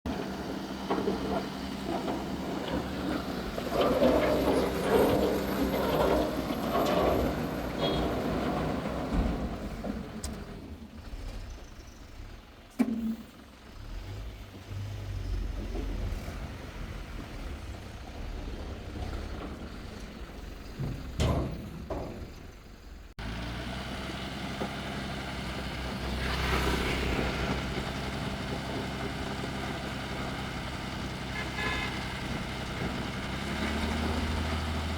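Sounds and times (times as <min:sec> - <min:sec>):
excavator diesel engine working: 0:00.0 - 0:34.9.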